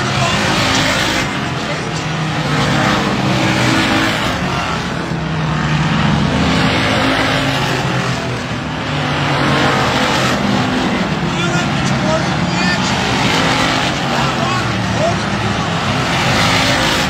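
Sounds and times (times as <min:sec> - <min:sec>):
race cars passing: 0:00.0 - 0:17.0.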